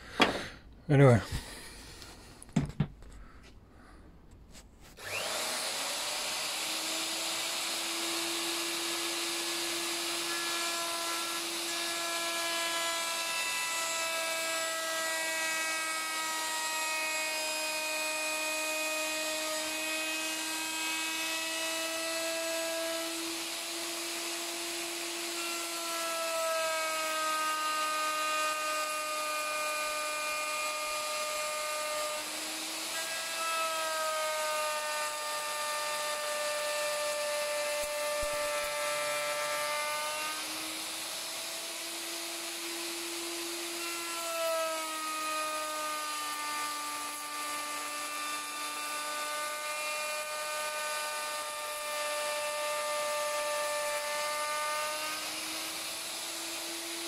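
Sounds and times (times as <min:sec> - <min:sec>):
router motor whining while cutting: 0:05.0 - 0:57.0.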